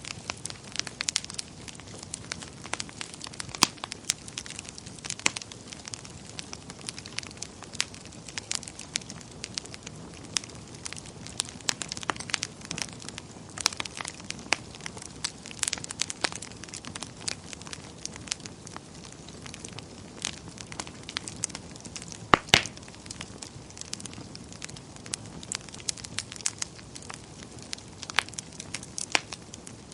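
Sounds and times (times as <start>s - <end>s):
soft hiss of fire: 0.0s - 29.9s
wood fire crackling and popping: 0.0s - 29.9s.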